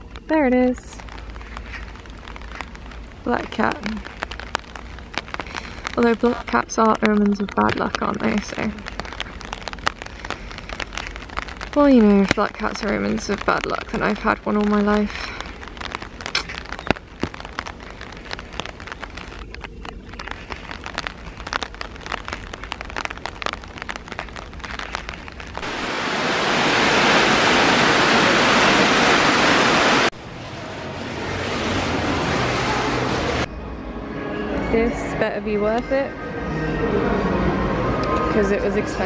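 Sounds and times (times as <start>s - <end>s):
raindrops ticking and crackling: 0.0s - 33.5s, 34.6s - 36.1s, 38.0s - 39.0s
steady rain hiss: 0.0s - 33.5s, 37.3s - 39.0s.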